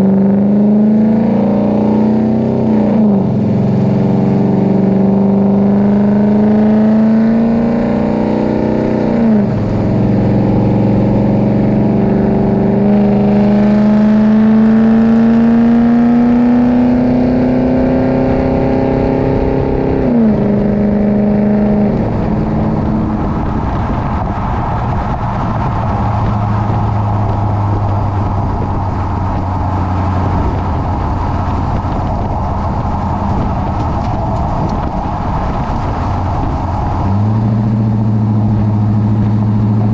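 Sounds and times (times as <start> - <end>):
pickup truck engine accelerating: 0.0 - 39.9.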